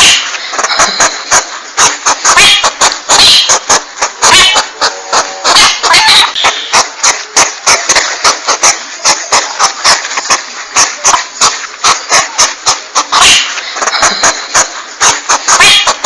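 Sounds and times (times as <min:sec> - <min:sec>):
rapid sharp clicks: 0:00.0 - 0:16.0.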